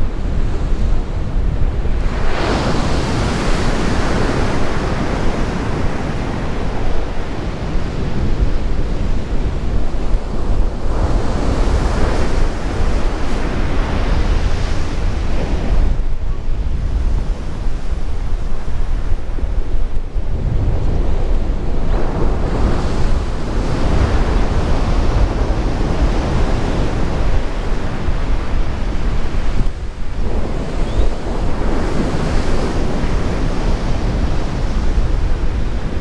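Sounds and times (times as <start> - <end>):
sea surf breaking on beach: 0.0 - 36.0
wind buffeting microphone: 0.0 - 36.0.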